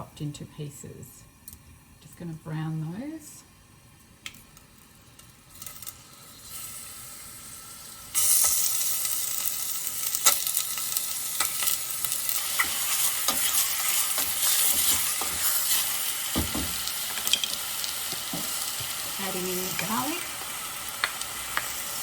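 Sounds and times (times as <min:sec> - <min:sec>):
chicken sizzling in hot oil: 0:02.8 - 0:22.0.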